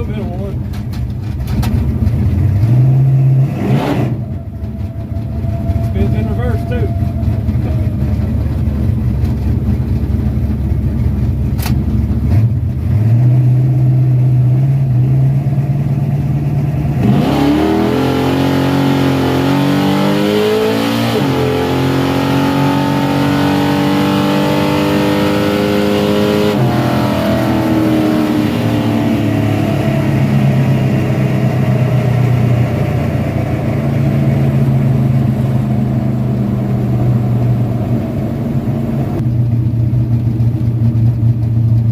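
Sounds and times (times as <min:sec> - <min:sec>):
car engine accelerating: 0:00.0 - 0:41.9.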